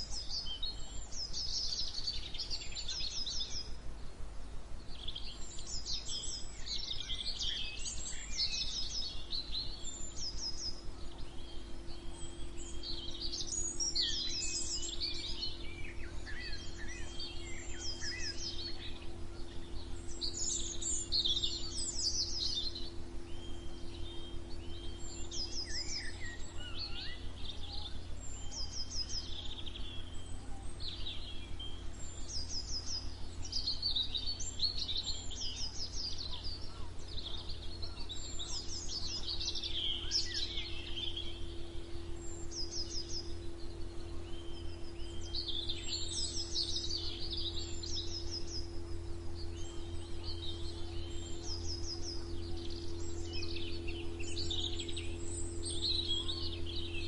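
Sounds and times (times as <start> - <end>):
songbirds chirping and singing: 0.0 - 57.0
steady low hum: 0.0 - 57.0.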